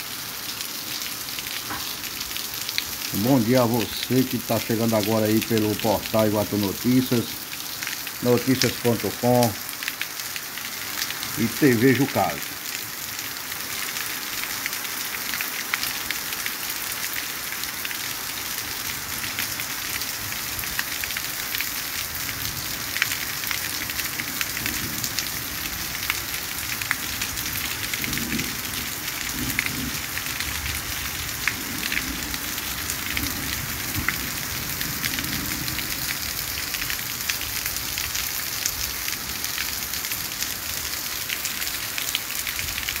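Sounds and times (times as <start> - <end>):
rain on street and trees: 0.0 - 43.0.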